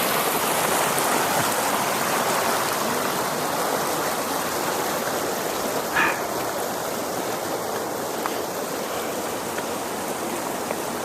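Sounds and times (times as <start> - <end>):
water rushing over falls: 0.0 - 11.0.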